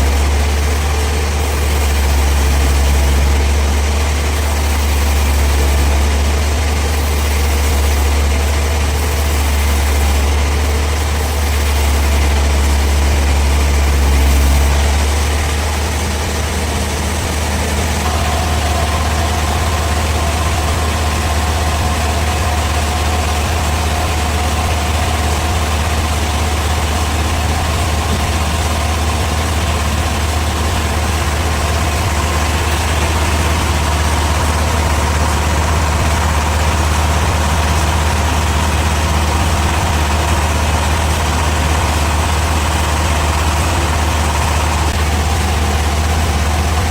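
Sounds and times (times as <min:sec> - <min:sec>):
high steady whine: 0:00.0 - 0:46.9
sawmill machinery humming: 0:00.0 - 0:46.9.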